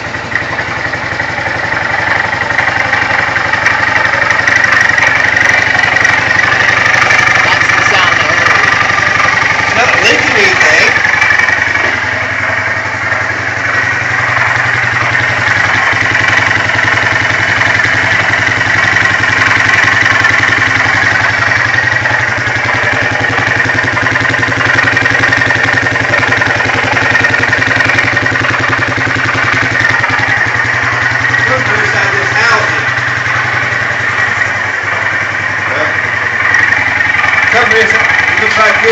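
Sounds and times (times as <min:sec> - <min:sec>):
atv engine idling with knocking: 0:00.0 - 0:38.9.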